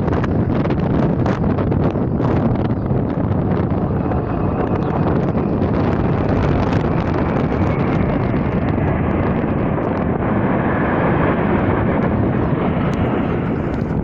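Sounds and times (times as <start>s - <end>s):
aircraft engine rushing: 0.0s - 14.0s
wind buffeting microphone: 0.0s - 14.0s.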